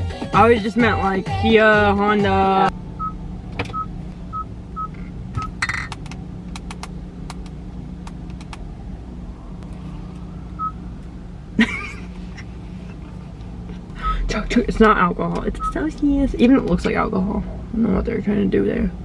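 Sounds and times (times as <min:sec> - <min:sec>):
car cabin hum: 0:00.1 - 0:19.0.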